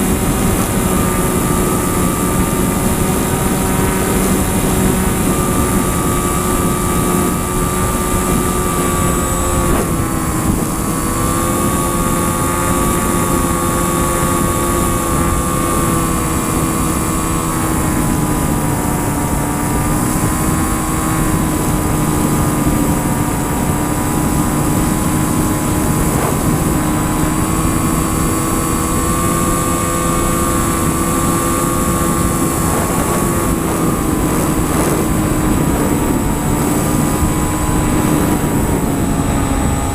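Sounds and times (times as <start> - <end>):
aircraft engine drone: 0.0 - 39.9
steady rushing noise: 0.0 - 39.9.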